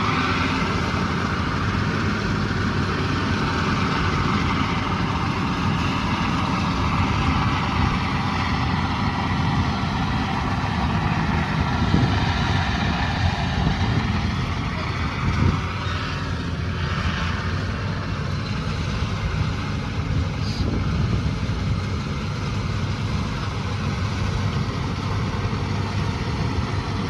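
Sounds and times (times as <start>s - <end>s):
diesel farm machinery running: 0.0s - 27.0s.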